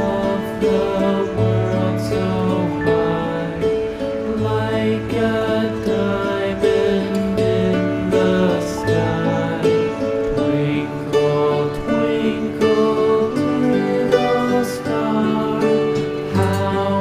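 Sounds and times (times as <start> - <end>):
instrumental music with plucked notes: 0.0 - 17.0.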